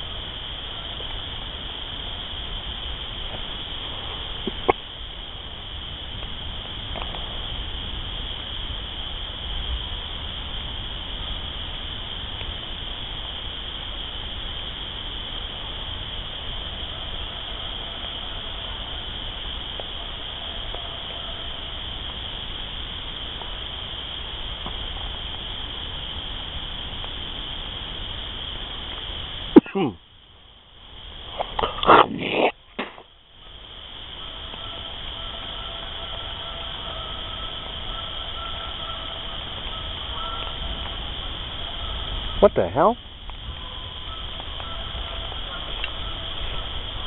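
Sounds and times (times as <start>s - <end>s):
night chorus of calling animals: 0.0s - 47.0s.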